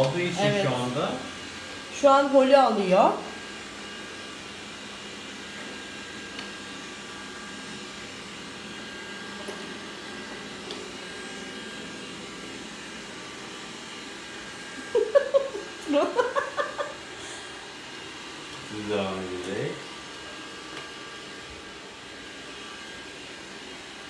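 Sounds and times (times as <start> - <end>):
robot vacuum cleaner whirring: 0.0 - 24.0.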